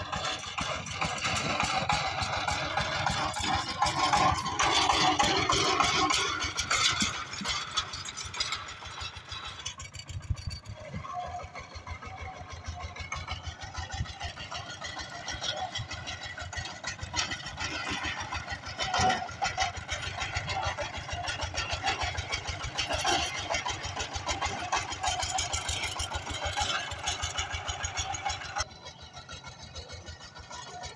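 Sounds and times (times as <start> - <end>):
diesel engine chugging: 0.0 - 30.9.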